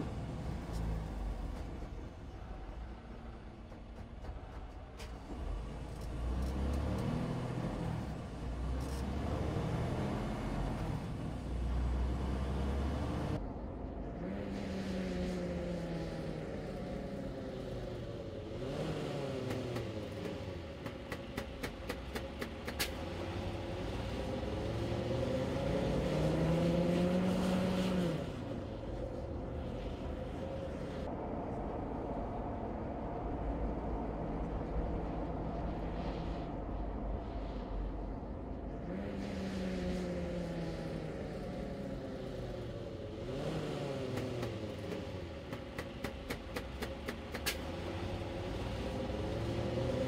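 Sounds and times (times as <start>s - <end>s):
truck engine and road rumble: 0.0s - 50.0s.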